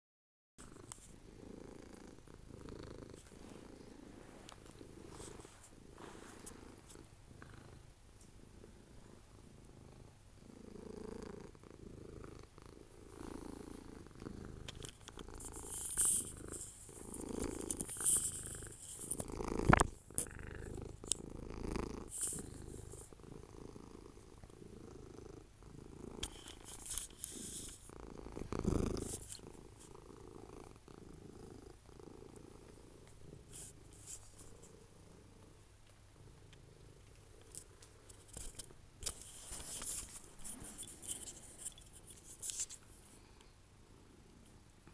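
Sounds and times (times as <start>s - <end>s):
cat purring: 0.6s - 44.9s.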